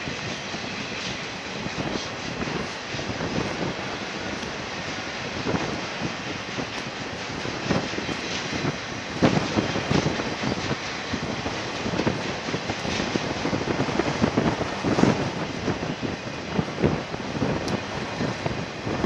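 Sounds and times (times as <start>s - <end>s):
knocks and bumps of train cars: 0.0s - 19.0s
train wheels rolling on rail: 0.0s - 19.0s.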